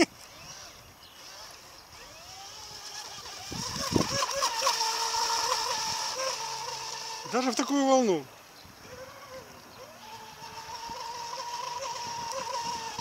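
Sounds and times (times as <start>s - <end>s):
electric motor high whine: 0.0s - 8.2s, 8.8s - 13.0s.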